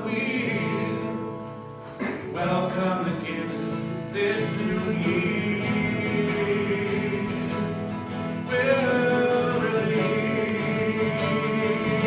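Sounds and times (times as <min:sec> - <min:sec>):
group singing: 0:00.0 - 0:12.0
strummed acoustic guitar: 0:00.0 - 0:12.0.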